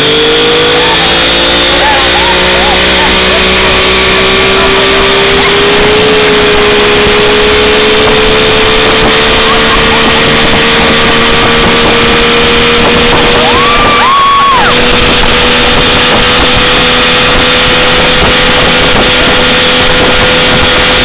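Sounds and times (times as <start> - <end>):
outboard motor running: 0.0 - 21.0
rushing wake water: 0.0 - 21.0.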